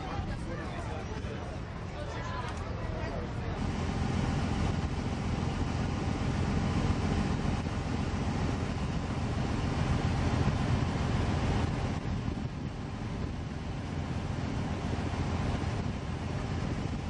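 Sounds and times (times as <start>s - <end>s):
boat low rumble: 0.0s - 17.0s
wind buffeting microphone: 0.0s - 17.0s.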